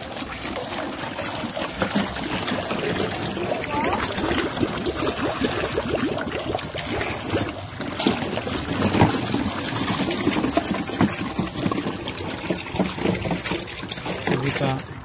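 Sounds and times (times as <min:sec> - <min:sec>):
water trickling and lapping: 0:00.0 - 0:15.0.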